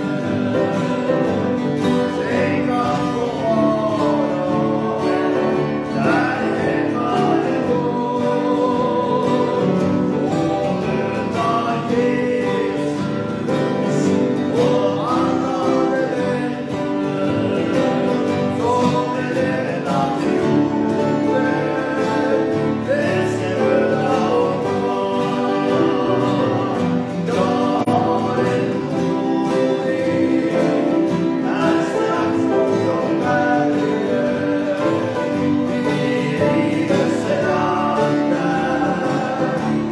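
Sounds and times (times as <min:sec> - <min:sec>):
acoustic guitars: 0:00.0 - 0:39.9
men singing a hymn: 0:00.0 - 0:39.9.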